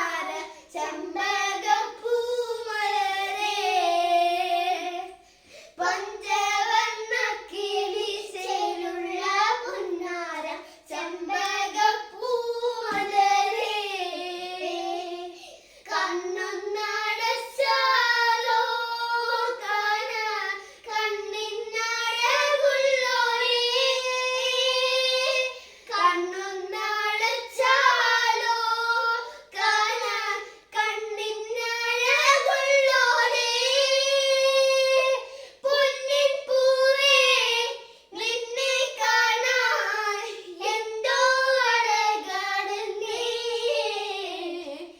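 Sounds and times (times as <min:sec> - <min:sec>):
children singing unaccompanied: 0:00.0 - 0:44.9.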